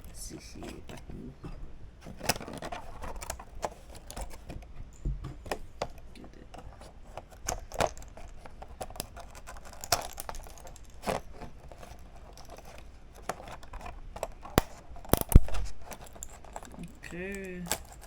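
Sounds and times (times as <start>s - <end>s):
plastic crackling and scraping: 0.0s - 4.7s, 5.4s - 18.0s
plastic snapping: 2.0s - 4.7s, 5.4s - 18.0s.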